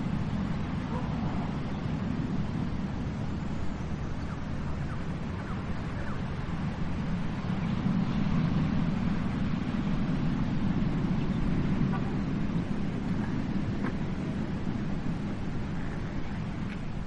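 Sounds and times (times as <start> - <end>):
sea waves rushing: 0.0 - 17.0.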